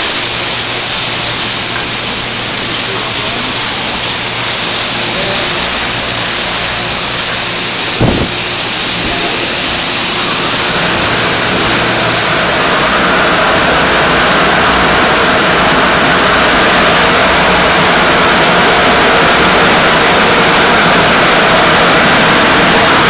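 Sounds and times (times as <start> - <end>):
car wash water spray: 0.0 - 23.0.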